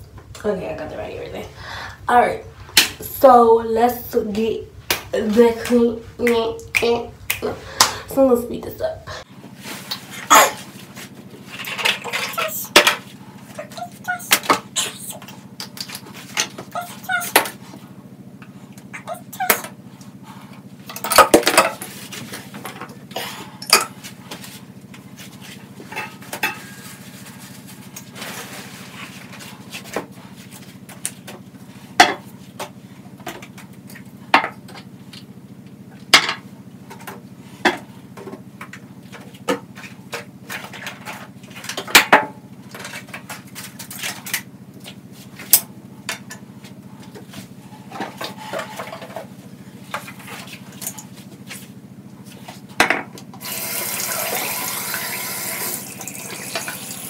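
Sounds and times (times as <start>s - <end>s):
steady low hum: 0.0s - 53.5s.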